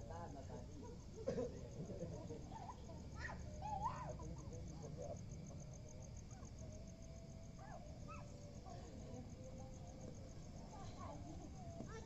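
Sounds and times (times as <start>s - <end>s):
faint distant voices: 0.0s - 12.0s
insects chirping: 0.0s - 12.0s.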